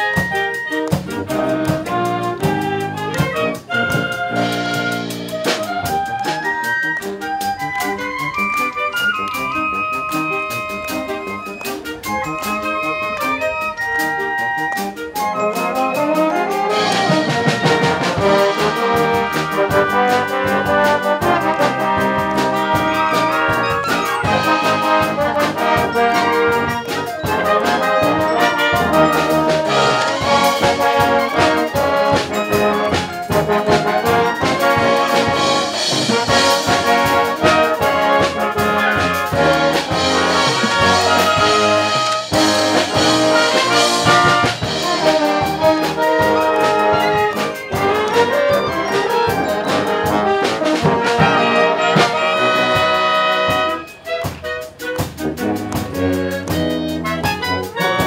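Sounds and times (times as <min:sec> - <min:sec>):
wind band playing: 0:00.0 - 0:58.0.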